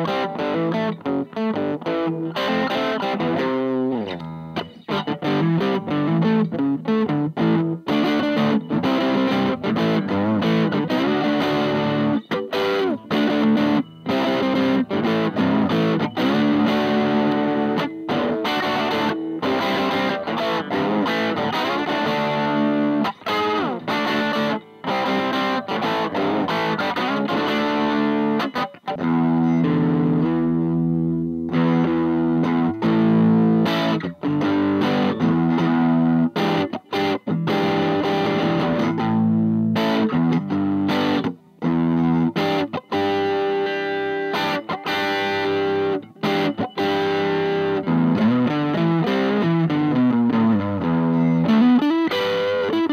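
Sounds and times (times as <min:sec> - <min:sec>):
electric guitar chords: 0:00.0 - 0:52.9.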